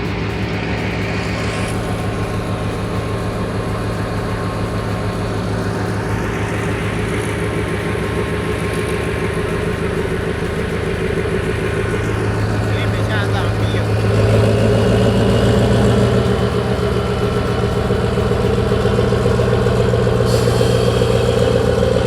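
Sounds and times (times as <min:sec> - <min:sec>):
diesel locomotive engine hum: 0:00.0 - 0:22.0.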